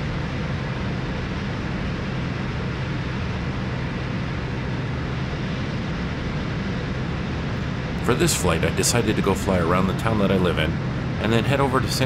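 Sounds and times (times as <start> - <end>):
airplane engine and propeller drone: 0.0 - 12.0.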